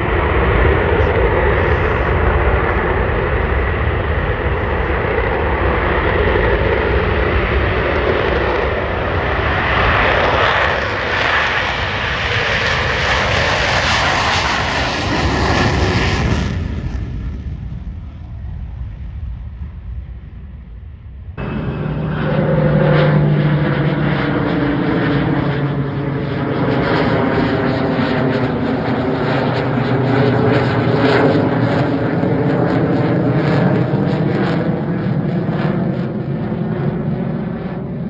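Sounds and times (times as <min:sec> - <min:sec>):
airplane engine noise: 0:00.0 - 0:16.5, 0:21.4 - 0:38.0.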